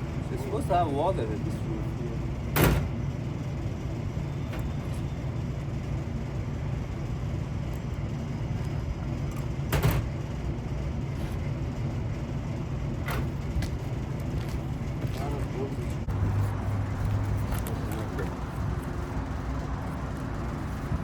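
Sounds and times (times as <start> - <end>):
low rumble of machinery or traffic: 0.0 - 21.0.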